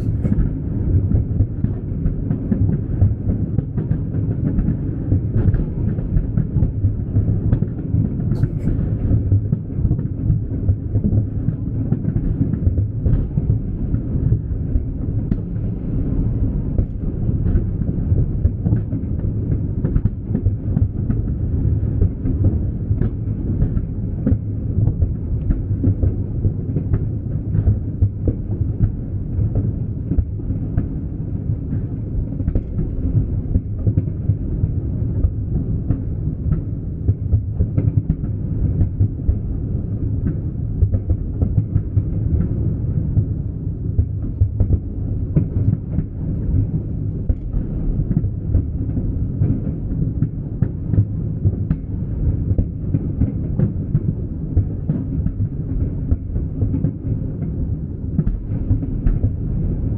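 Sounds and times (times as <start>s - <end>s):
fireworks booming: 0.0s - 59.9s.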